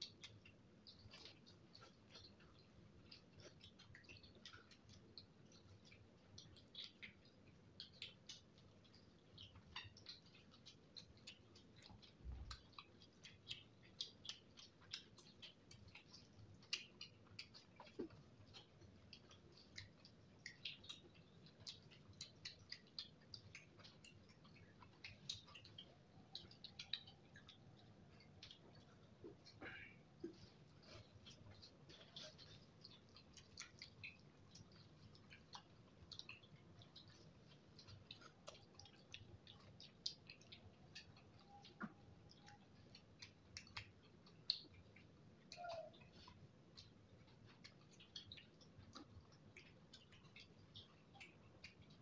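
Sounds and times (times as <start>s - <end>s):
person chewing noodles: 0.0s - 52.0s.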